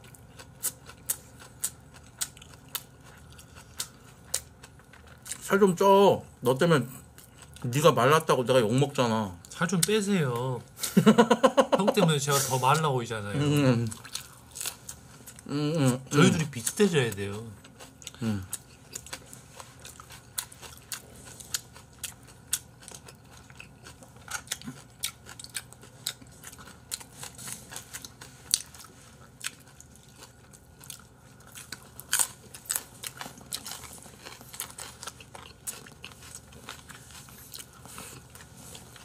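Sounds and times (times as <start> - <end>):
crunchy vegetables being chewed: 0.0 - 5.8, 6.4 - 10.6, 12.7 - 39.0.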